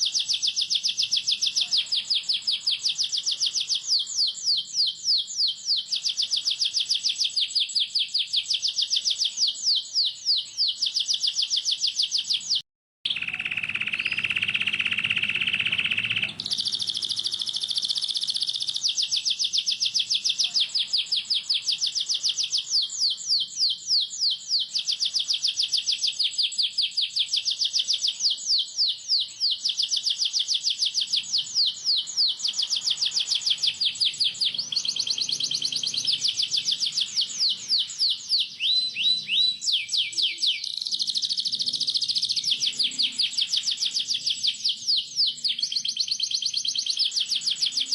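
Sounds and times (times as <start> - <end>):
canary chirping song: 0.0 - 47.9.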